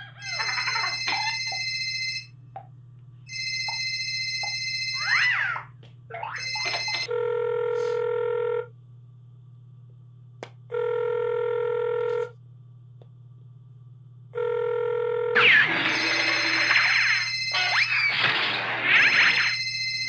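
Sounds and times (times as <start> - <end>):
low steady hum: 0.0 - 18.1.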